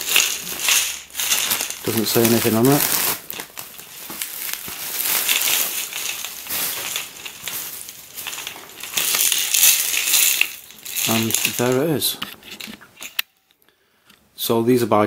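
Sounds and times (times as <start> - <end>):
bubble wrap crinkling: 0.0 - 13.4.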